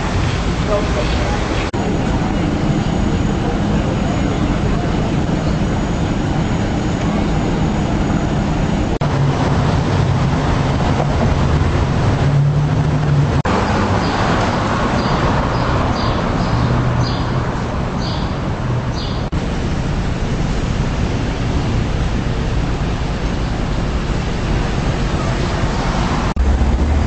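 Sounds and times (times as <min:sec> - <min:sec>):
low traffic drone: 0:00.0 - 0:27.0.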